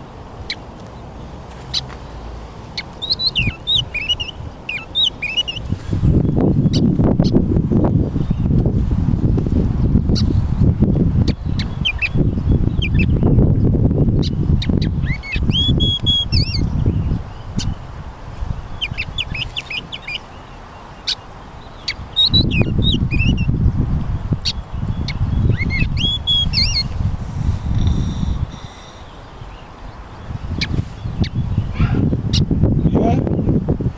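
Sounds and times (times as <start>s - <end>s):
small birds chirping: 0.0s - 33.6s.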